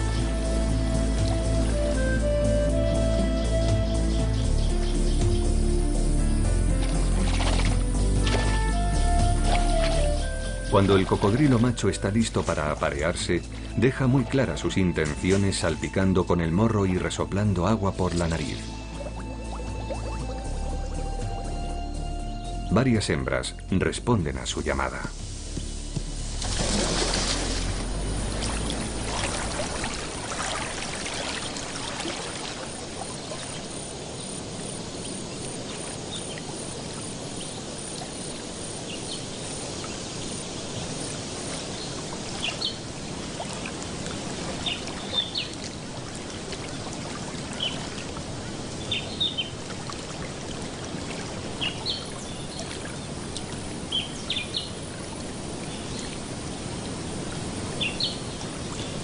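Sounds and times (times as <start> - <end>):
water splashing and trickling: 0.0 - 23.4, 24.1 - 59.0.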